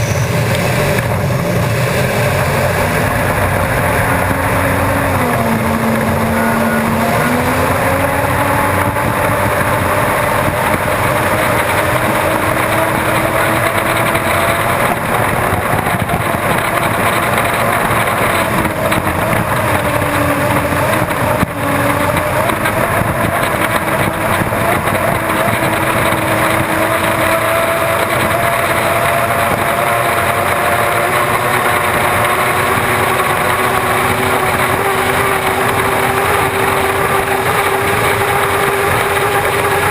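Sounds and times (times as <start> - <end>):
constant rushing noise: 0.0 - 39.9
turbine engine running: 0.0 - 39.9.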